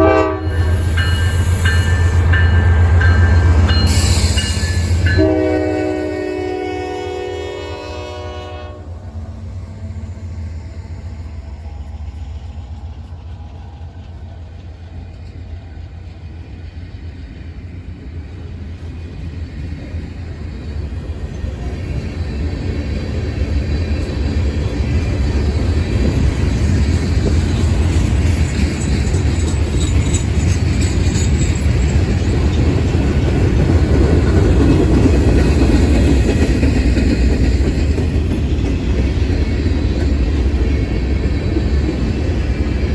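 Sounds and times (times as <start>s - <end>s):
rail and wheel noise: 0.0s - 42.9s
train rumble: 0.0s - 42.9s.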